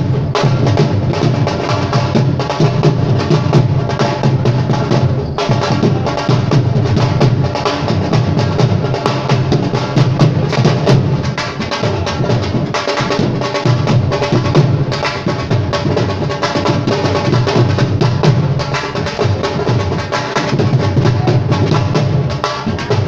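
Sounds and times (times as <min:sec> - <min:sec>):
fast dense drumming: 0:00.0 - 0:23.0.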